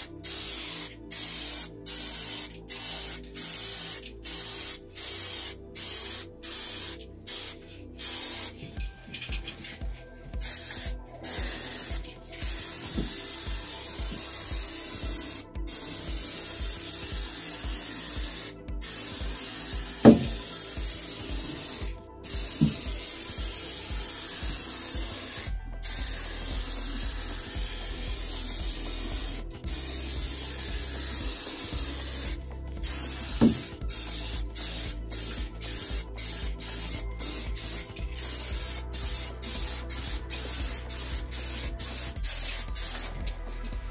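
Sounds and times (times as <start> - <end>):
spray paint hissing: 0.0 - 43.9.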